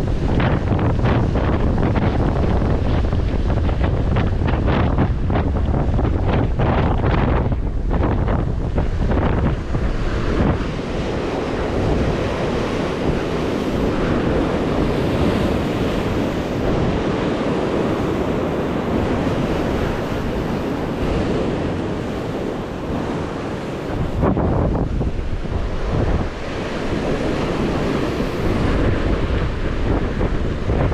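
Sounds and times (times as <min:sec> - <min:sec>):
waves washing on rocky shore: 0:00.0 - 0:30.9
wind buffeting microphone: 0:00.0 - 0:30.9.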